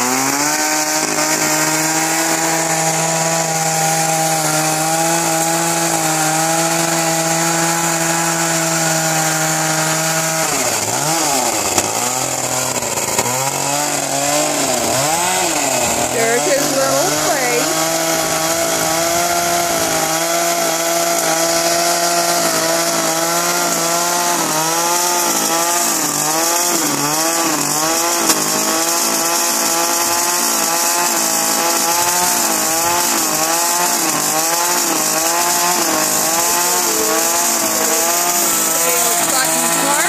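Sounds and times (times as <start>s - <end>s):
chainsaw carving wood: 0.0s - 40.0s.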